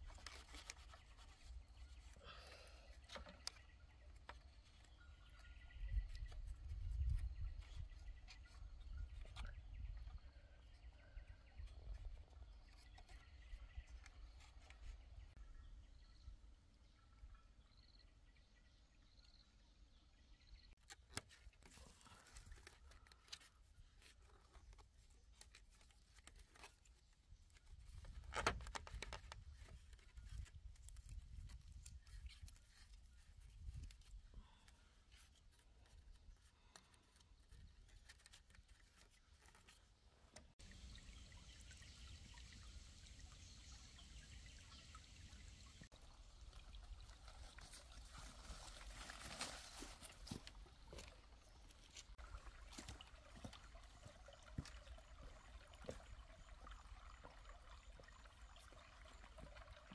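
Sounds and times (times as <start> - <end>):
quiet outdoor background noise: 0.0 - 59.9.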